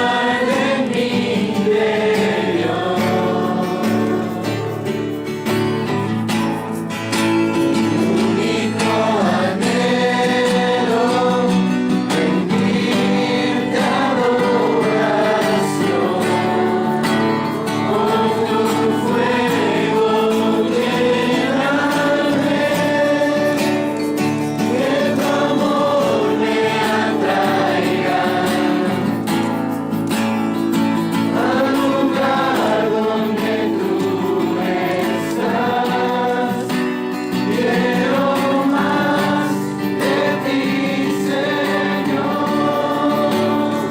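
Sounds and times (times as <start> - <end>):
choir singing: 0.0 - 5.4, 7.5 - 29.5, 31.0 - 43.9.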